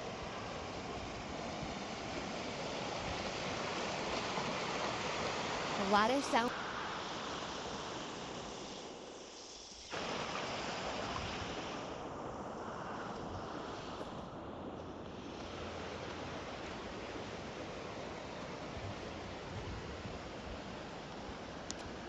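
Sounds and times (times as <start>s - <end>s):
creek water rushing: 0.0s - 14.5s, 15.1s - 22.0s.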